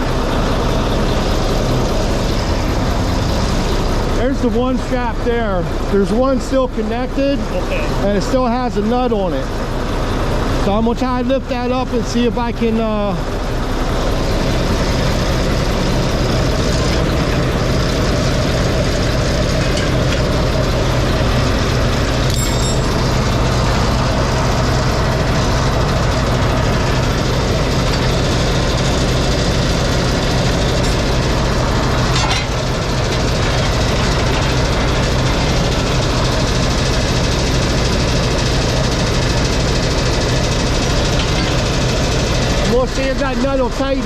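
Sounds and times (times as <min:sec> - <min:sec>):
diesel truck engine idling: 0:00.0 - 0:44.0.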